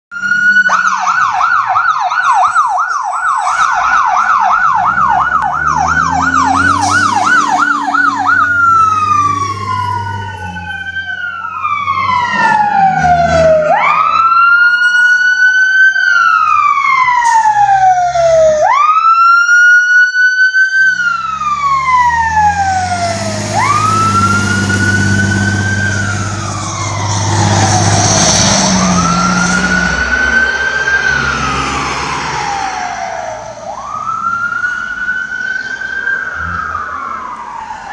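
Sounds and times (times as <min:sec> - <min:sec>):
electronic siren yelp: 0:00.1 - 0:37.9
siren wail: 0:00.1 - 0:37.9
truck engines rumbling: 0:00.1 - 0:37.9.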